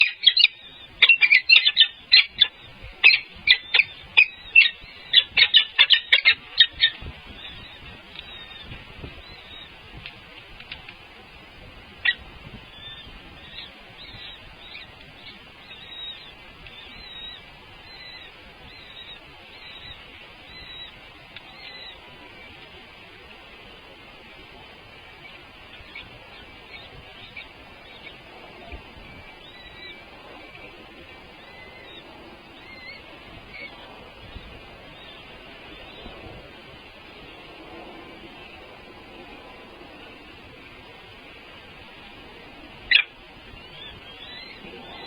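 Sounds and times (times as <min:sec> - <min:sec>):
birds calling shrilly: 0:00.0 - 0:24.2, 0:24.8 - 0:45.0.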